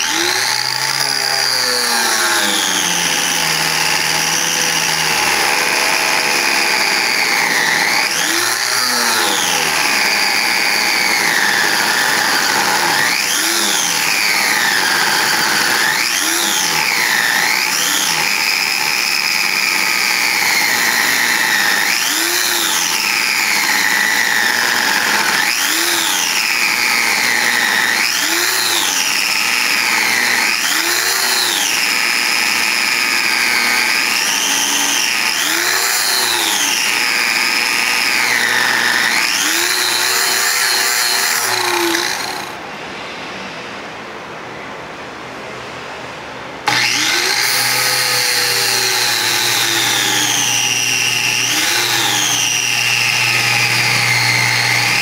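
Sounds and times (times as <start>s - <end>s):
cut-off saw grinding metal: 0.0s - 42.7s, 46.6s - 55.0s.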